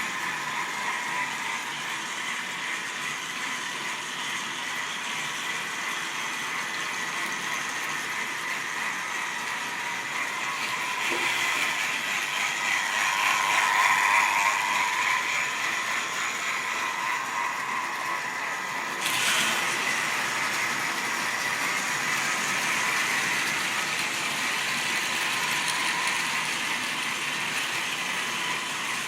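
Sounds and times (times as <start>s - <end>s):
model train whir and rattle: 0.0s - 29.0s.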